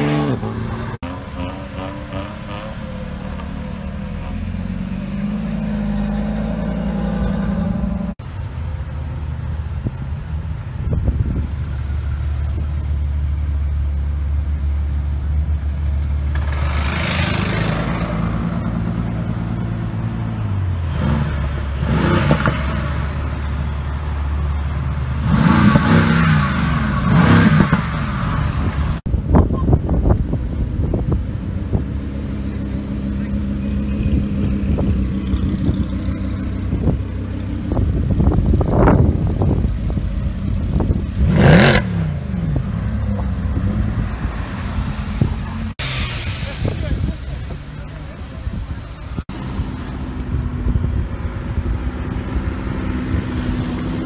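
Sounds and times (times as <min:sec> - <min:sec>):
sports car engines revving: 0:00.0 - 0:08.2, 0:09.0 - 0:54.0.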